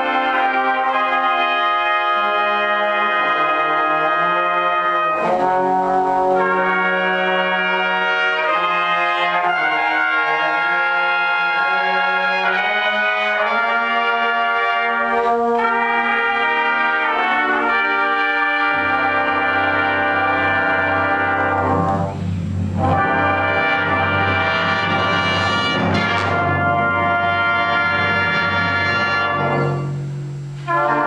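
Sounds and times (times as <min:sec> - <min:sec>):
brass ensemble playing chords: 0:00.0 - 0:31.0.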